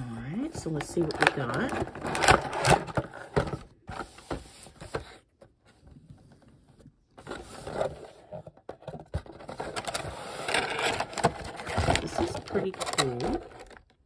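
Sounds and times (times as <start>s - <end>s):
box packaging being handled: 0.0s - 14.0s.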